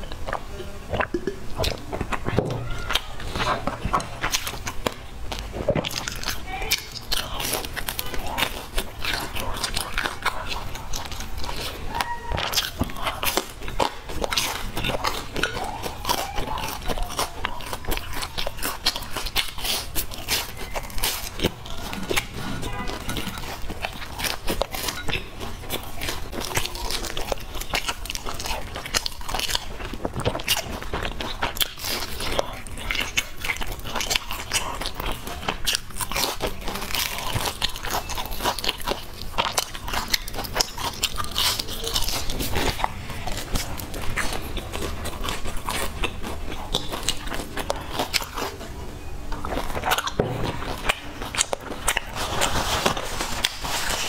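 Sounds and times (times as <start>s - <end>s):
person chewing crispy food: 0.0s - 54.0s.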